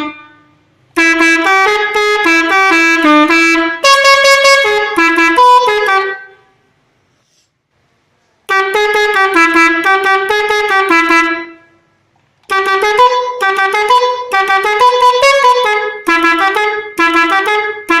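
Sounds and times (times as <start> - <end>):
bus air horn playing tunes: 0.0 - 6.6, 8.4 - 11.9, 12.5 - 18.0.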